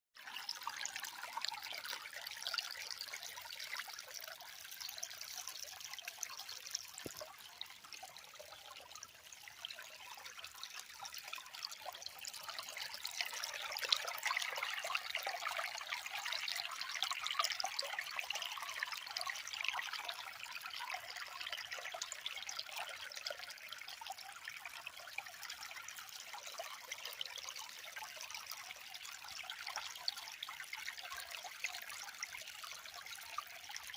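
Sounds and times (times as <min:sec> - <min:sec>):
stream of water trickling: 0:00.2 - 0:33.9.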